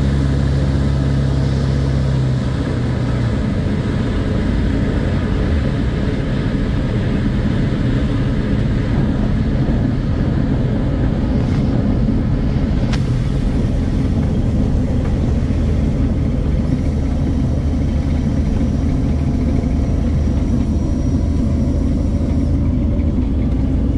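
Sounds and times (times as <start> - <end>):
light aircraft engine and propeller: 0.0 - 23.9.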